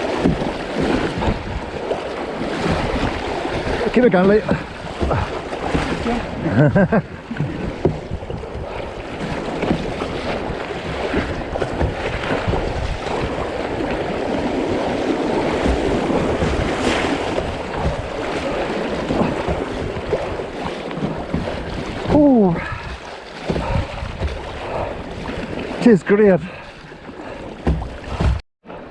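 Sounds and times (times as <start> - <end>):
river water rushing: 0.0 - 7.9, 8.5 - 28.3
water splashes: 0.0 - 28.9
wind buffeting microphone: 2.4 - 25.8.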